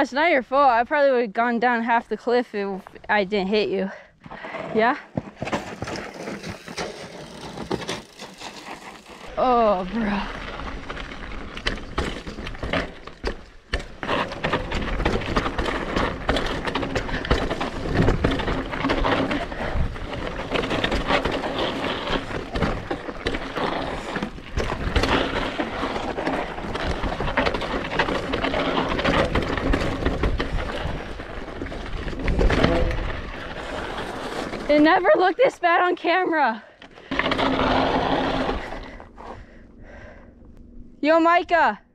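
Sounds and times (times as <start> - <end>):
tyres crunching over dirt and stones: 4.2 - 39.6
bike rattling over rocks: 4.3 - 39.6.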